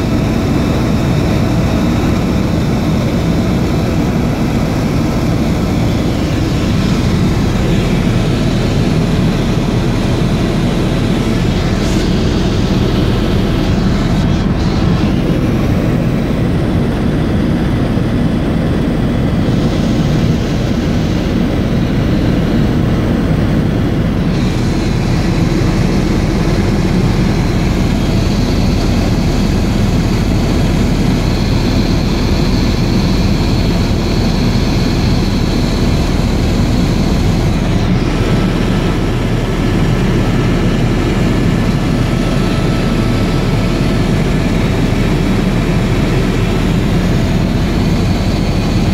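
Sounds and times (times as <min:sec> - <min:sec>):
helicopter engine and rotor: 0:00.0 - 0:48.9.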